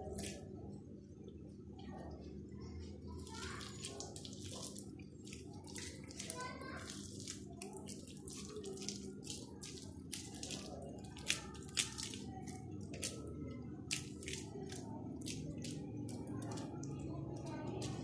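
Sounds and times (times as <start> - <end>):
wet mixture squelching: 0.0 - 0.7, 2.1 - 18.0.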